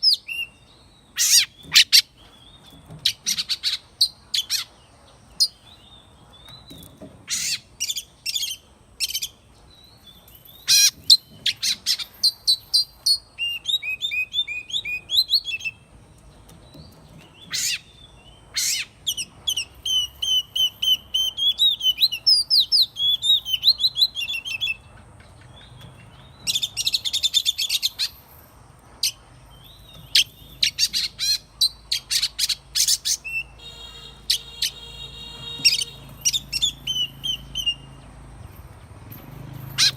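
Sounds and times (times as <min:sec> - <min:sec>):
bird singing with whistles and trills: 0:00.0 - 0:04.7, 0:06.4 - 0:15.8, 0:16.7 - 0:24.9, 0:25.6 - 0:28.2, 0:29.0 - 0:38.0.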